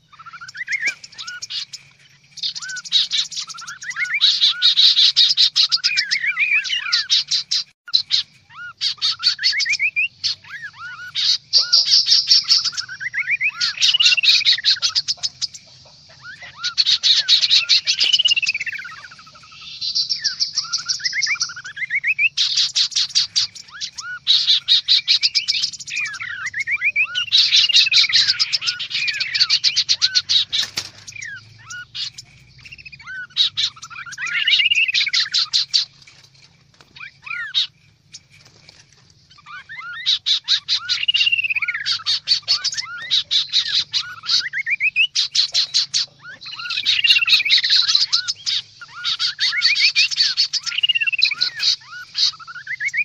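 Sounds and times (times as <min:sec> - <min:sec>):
birds chattering and whistling: 0:00.0 - 0:53.0.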